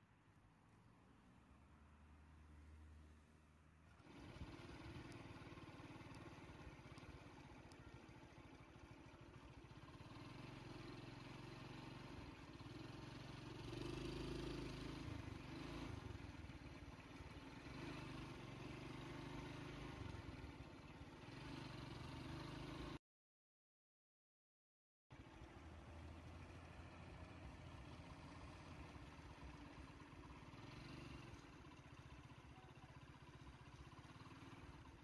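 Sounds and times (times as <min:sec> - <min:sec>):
vehicle engine running: 0:03.9 - 0:23.0, 0:25.1 - 0:35.0.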